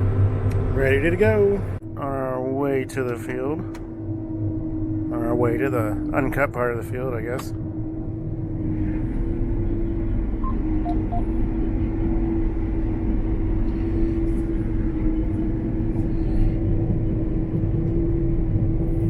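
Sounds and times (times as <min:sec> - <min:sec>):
combine harvester engine droning: 0:00.0 - 0:19.0.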